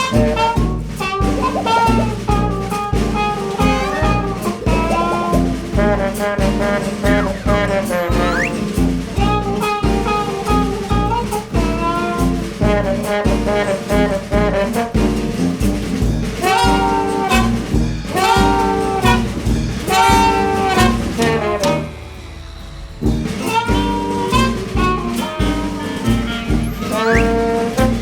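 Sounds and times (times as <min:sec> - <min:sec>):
upbeat jazzy music with saxophone: 0:00.0 - 0:22.1, 0:23.0 - 0:28.0.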